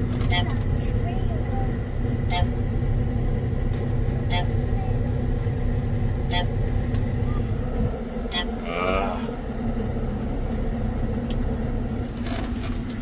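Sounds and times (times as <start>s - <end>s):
harvester engine rumbling: 0.0s - 13.0s.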